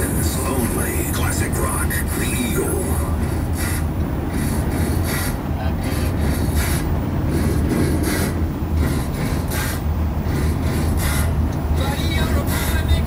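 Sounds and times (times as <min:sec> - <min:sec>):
road and engine rumble in truck cab: 0:00.0 - 0:13.0.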